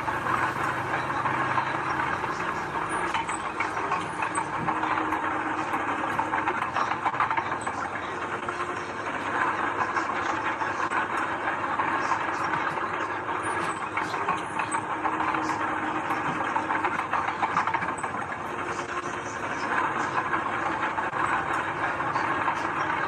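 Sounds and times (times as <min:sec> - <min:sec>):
heavy diesel machinery clattering: 0:00.0 - 0:23.0.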